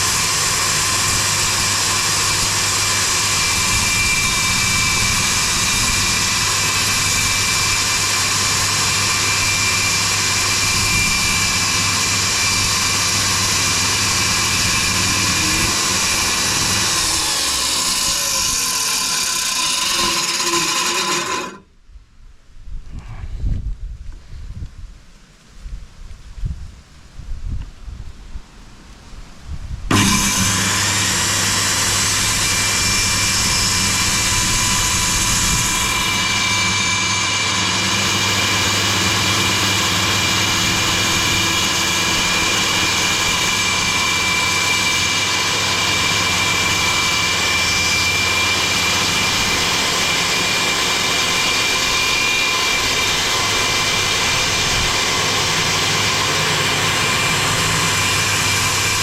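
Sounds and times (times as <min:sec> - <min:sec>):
electric saw cutting plywood: 0:00.0 - 0:21.7, 0:29.9 - 0:59.0.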